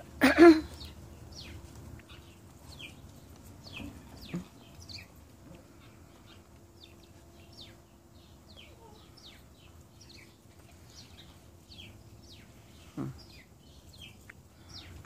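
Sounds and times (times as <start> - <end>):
faint steady hum: 0.0 - 15.0
small birds chirping: 0.0 - 15.0.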